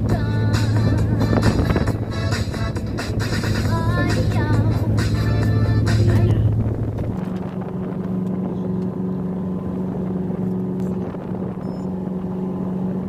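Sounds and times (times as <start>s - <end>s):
motor boat engine droning: 0.0s - 13.0s.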